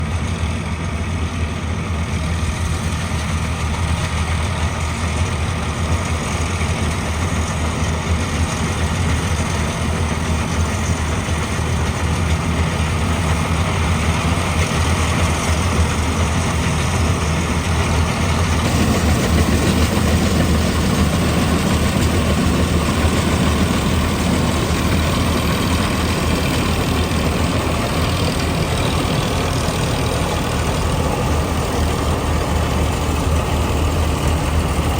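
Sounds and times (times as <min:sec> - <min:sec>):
harvester engine running: 0:00.0 - 0:34.9.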